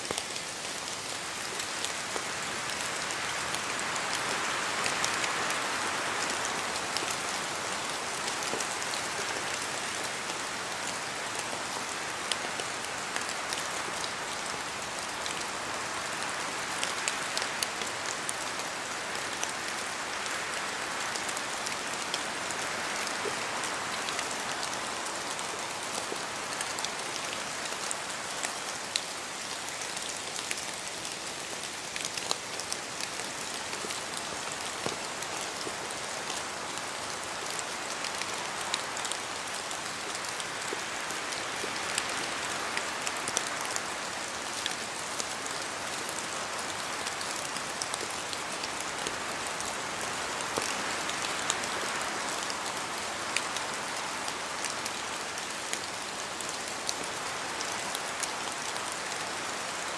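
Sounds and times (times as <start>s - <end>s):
rain falling in a forest: 0.0s - 59.9s.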